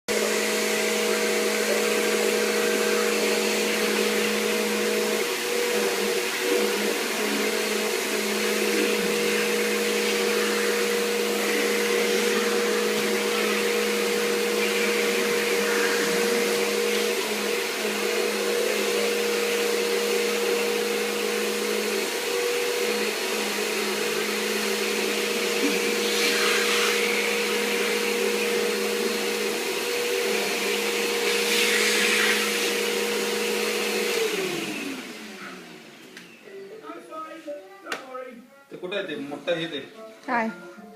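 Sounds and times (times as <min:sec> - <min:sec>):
vacuum cleaner running: 0:00.1 - 0:37.0.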